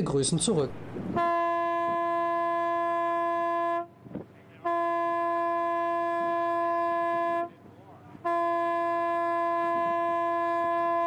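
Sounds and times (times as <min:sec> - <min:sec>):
ship's horn blasts: 0:00.8 - 0:11.0.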